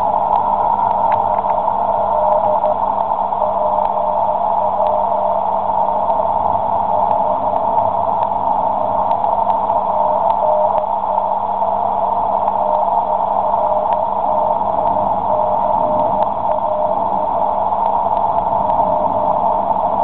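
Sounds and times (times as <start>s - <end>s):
radio band hiss: 0.0s - 20.0s
static clicks: 0.0s - 20.0s
faint morse code tone: 1.0s - 20.0s.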